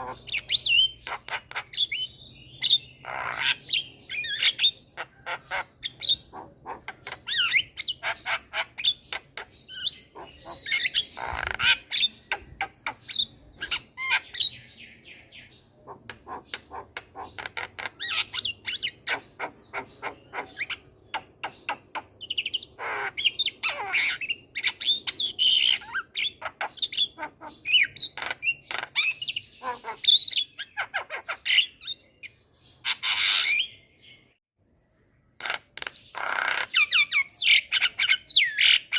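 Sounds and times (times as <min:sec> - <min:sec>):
bird singing chattering song: 0:00.0 - 0:38.9.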